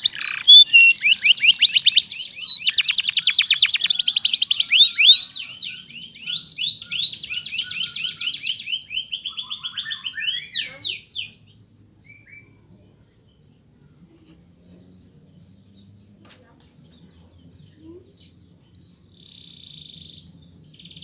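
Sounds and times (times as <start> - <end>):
canary singing trills: 0.0 - 13.8, 16.9 - 21.0.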